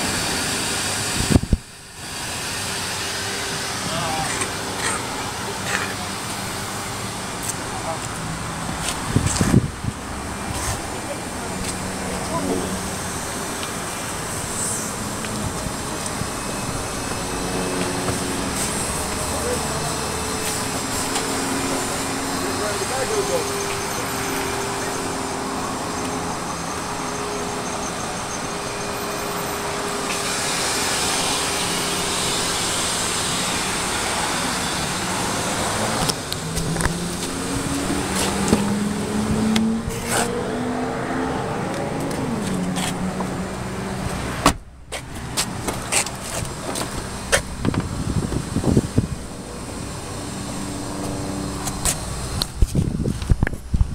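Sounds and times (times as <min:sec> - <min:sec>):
vehicle engine running: 0:00.0 - 0:40.2, 0:41.8 - 0:53.9.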